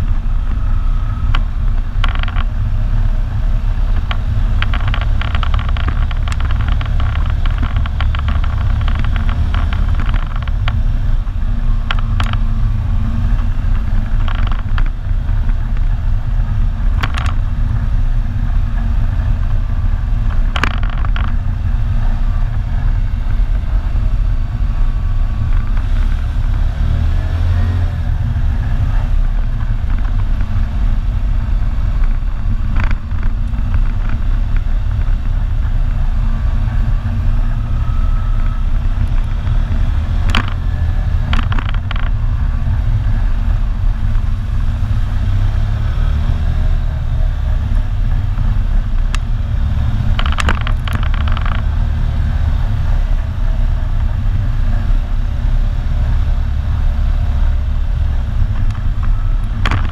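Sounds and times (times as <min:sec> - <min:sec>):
atv engine droning: 0:00.0 - 0:59.9.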